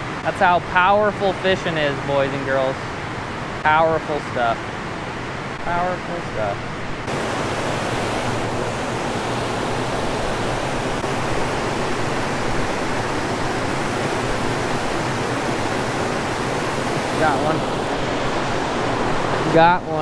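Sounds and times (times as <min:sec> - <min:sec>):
water rushing over dam spillway: 0:00.0 - 0:04.9, 0:05.7 - 0:20.0.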